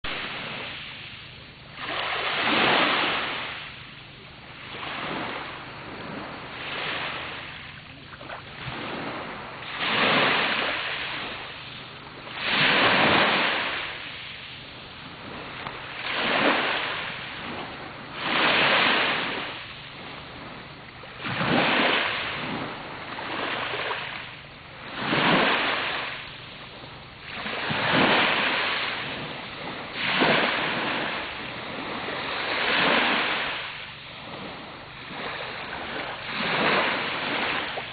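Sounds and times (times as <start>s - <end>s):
sea waves breaking on beach: 0.0s - 37.9s.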